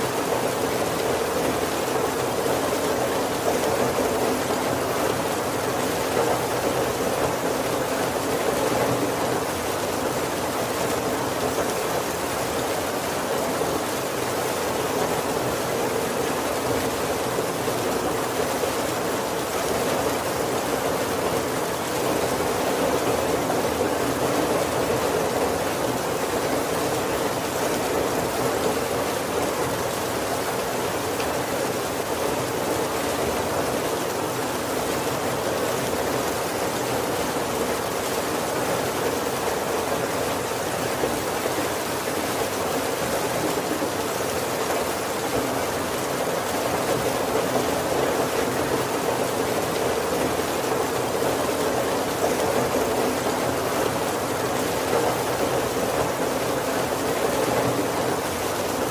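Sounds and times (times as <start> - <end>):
heavy rain on a wooden roof: 0.0 - 58.9.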